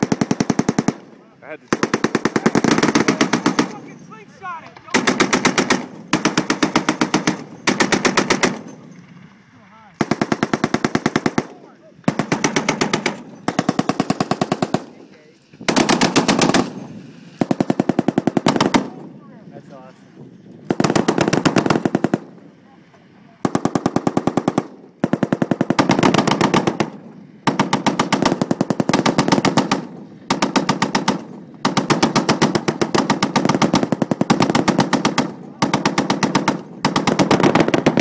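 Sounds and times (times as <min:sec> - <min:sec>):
heavy machine gun firing bursts: 0:00.0 - 0:01.1, 0:01.7 - 0:04.1, 0:04.9 - 0:08.8, 0:10.0 - 0:14.9, 0:15.6 - 0:19.1, 0:20.6 - 0:22.4, 0:23.4 - 0:38.0.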